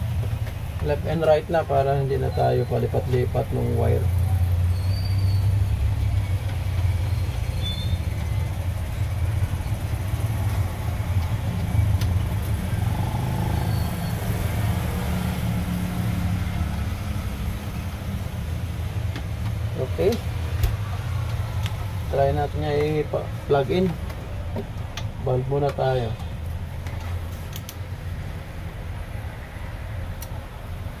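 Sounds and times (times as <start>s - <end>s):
steady low engine rumble: 0.0s - 31.0s.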